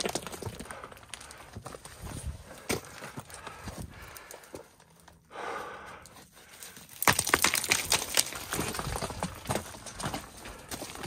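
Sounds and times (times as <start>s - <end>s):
footsteps on loose rock scree: 0.0s - 5.2s, 6.0s - 11.0s.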